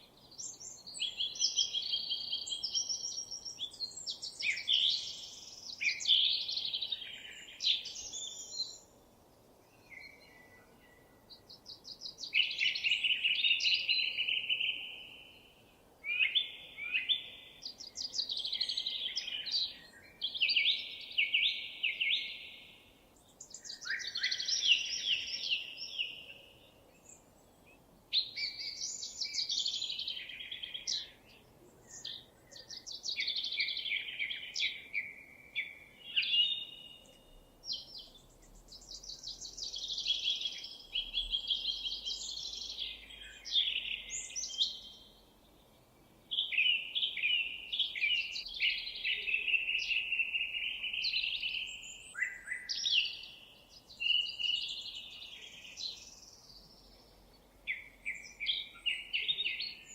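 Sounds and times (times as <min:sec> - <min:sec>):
songbirds singing trilled phrases: 0:00.0 - 0:09.0, 0:09.6 - 0:59.9
faint outdoor background noise: 0:00.0 - 0:59.9.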